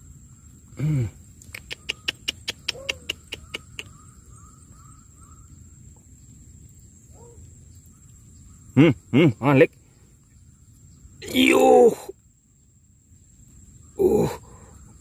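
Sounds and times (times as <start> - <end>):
high insect tone: 0.0 - 15.0.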